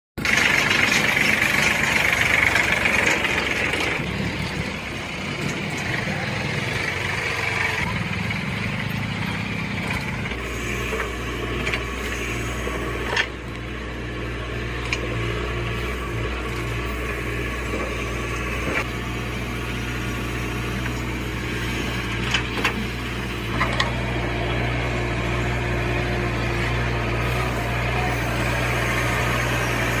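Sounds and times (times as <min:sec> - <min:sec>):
diesel engine running: 0:00.2 - 0:30.0.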